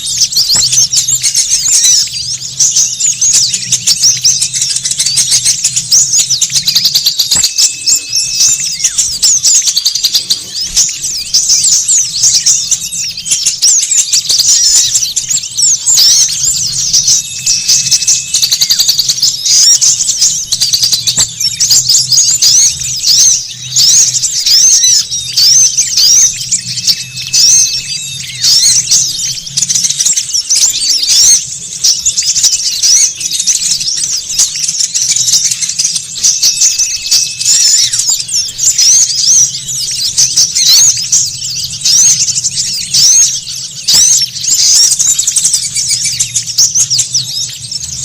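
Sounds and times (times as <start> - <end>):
songbirds chirping and twittering: 0.0 - 48.0.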